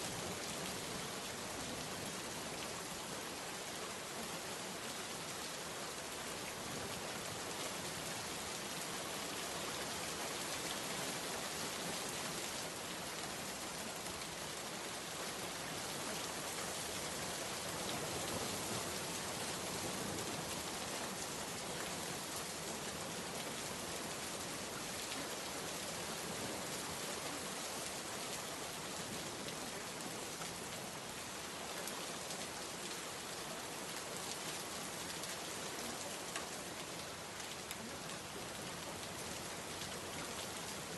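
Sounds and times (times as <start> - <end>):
steady rain on a surface: 0.0 - 40.9.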